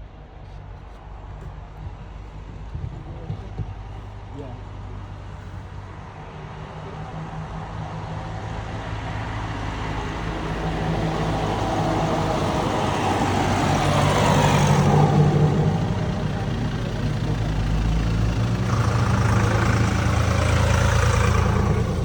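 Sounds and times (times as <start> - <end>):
tractor engine approaching: 0.0 - 22.0.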